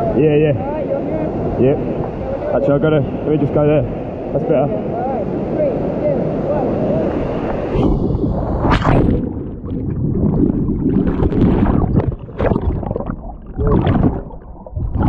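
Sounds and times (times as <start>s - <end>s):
muffled underwater water churning: 0.0s - 15.0s.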